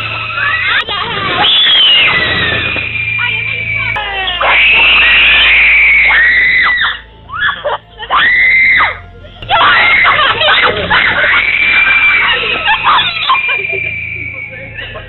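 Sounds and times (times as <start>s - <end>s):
people screaming in fright: 0.0s - 15.0s.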